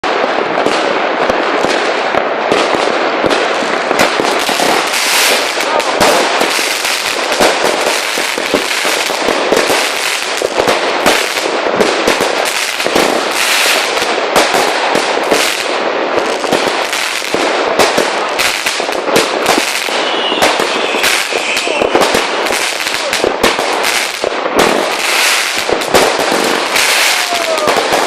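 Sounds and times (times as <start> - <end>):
firework rapid cracks and bangs: 0.0 - 28.0.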